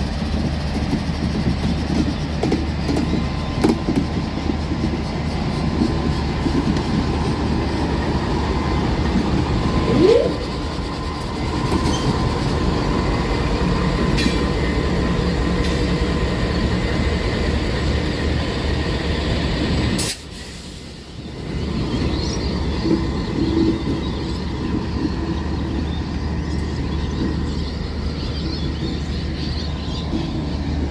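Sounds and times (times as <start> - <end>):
train rumbling on track: 0.0 - 30.9
train wheel squeal: 0.0 - 30.9.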